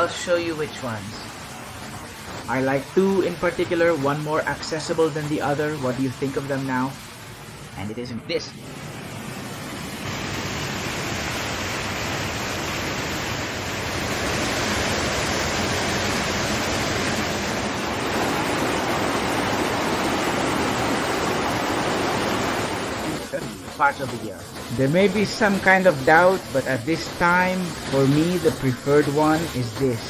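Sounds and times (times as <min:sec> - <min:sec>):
waterfall rushing: 0:00.0 - 0:07.8, 0:08.6 - 0:30.0.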